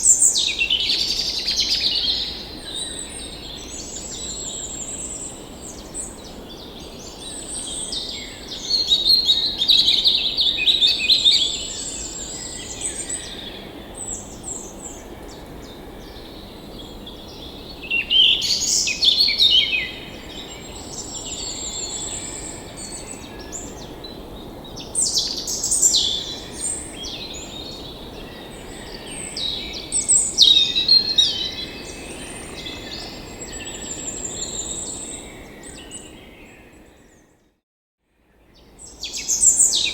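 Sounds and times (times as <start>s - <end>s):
songbirds chirping and trilling: 0.0s - 37.4s, 38.3s - 39.9s.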